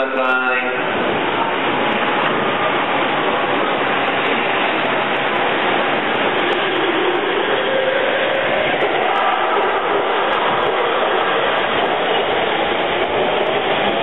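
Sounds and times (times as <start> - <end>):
train running noise: 0.0 - 14.0.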